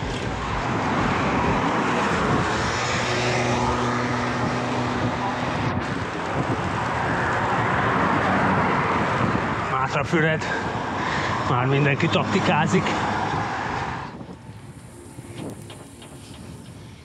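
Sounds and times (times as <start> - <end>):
rushing road and air noise: 0.0 - 17.0
vehicle engine humming: 0.0 - 17.0.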